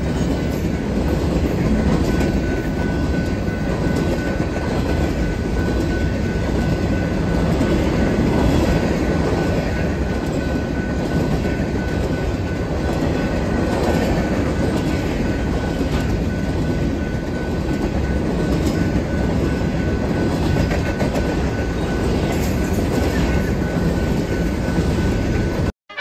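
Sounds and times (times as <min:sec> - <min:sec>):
train wheels rumbling on rail: 0:00.0 - 0:25.7.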